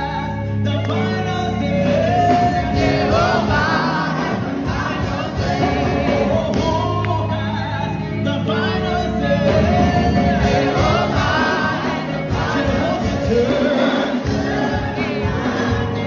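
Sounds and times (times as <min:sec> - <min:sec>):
band accompaniment: 0:00.0 - 0:16.0
choir singing: 0:01.7 - 0:07.1, 0:08.5 - 0:16.0.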